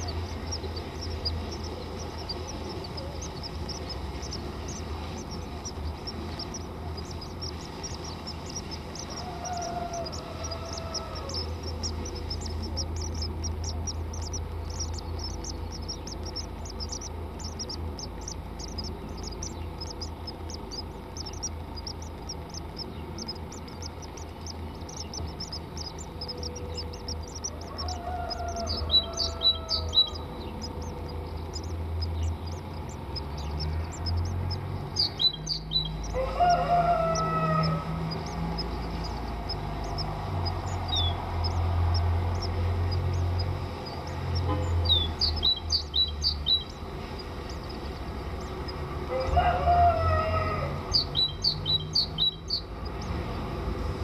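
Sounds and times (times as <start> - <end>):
steady low hum: 0.0 - 50.0
birds chirping: 0.0 - 54.0.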